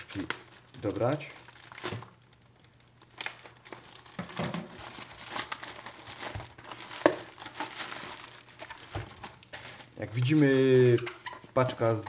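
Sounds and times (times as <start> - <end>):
plastic and bubble wrap crinkling: 0.0 - 12.0.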